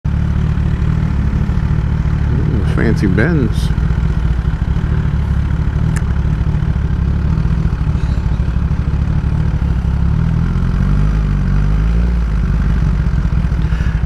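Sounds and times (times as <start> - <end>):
motorcycle engine idling: 0.1 - 14.0.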